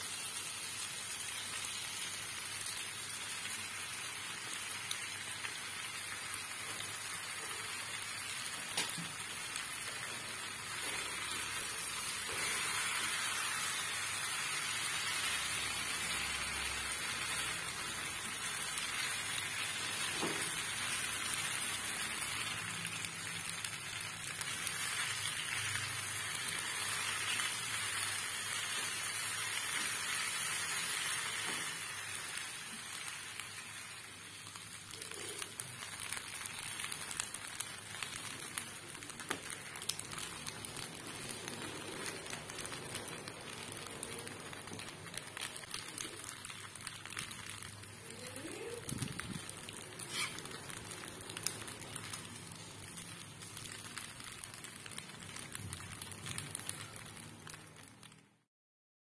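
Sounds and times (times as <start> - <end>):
pasta sizzling in a pan: 0.0 - 58.5.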